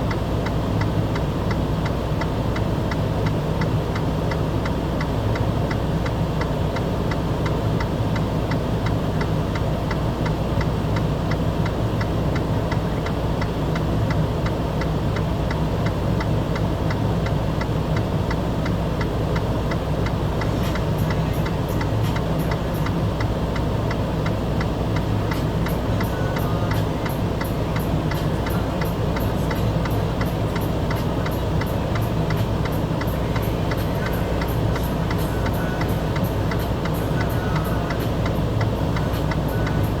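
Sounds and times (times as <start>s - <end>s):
vehicle engine humming: 0.0s - 40.0s
regular ticking: 0.1s - 40.0s.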